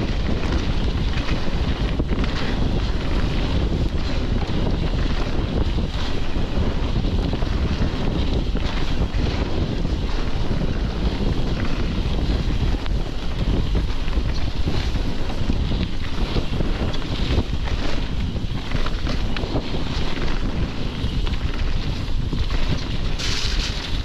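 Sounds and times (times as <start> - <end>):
tyre and trail noise: 0.0 - 24.0
wind rumble on microphone: 0.0 - 24.0.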